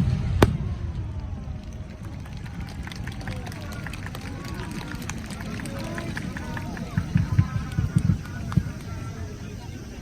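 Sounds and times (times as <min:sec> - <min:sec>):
fireworks rumble: 0:00.0 - 0:10.0
faint crowd voices: 0:00.2 - 0:10.0.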